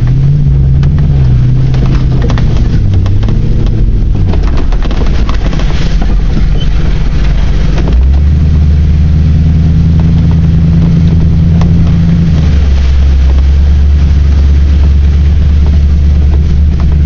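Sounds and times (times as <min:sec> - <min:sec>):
knocks and rattles: 0:00.0 - 0:08.7, 0:10.8 - 0:17.0
engine running: 0:00.0 - 0:17.0.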